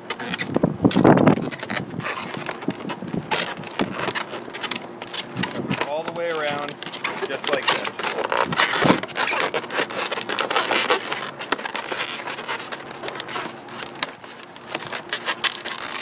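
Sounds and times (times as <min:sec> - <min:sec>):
balloons squeaking and rubbing: 0:00.0 - 0:16.0.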